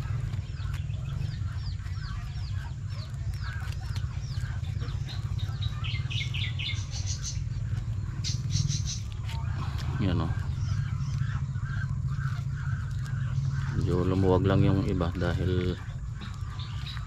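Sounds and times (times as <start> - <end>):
birds chirping: 0.0 - 17.0
low rumble: 0.0 - 17.0.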